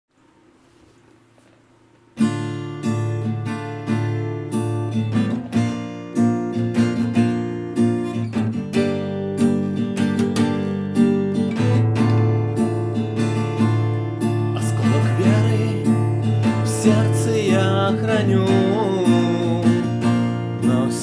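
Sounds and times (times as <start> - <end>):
acoustic guitar strumming: 2.2 - 21.0.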